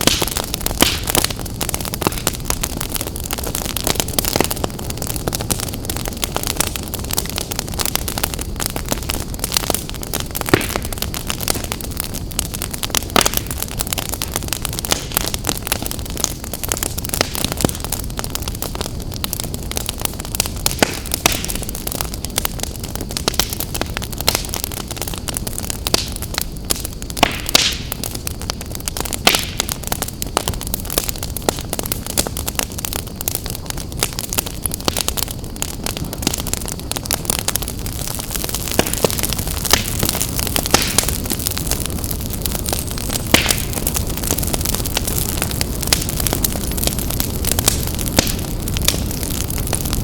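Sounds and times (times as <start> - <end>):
flames rushing: 0.0 - 50.0
sharp pops of fire: 0.0 - 50.0
wood fire crackling: 0.0 - 50.0.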